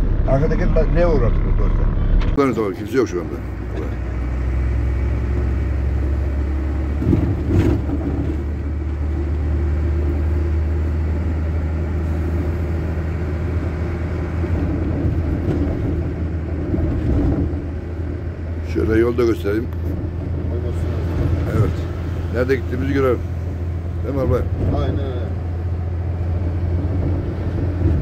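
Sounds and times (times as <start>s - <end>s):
truck diesel engine drone: 0.0s - 28.0s.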